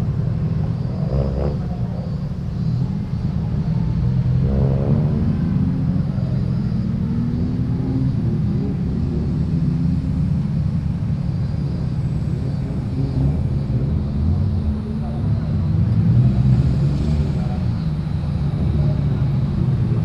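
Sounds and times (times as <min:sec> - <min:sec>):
car engine revving: 0:00.0 - 0:20.0
car engines pulling away: 0:00.0 - 0:20.0.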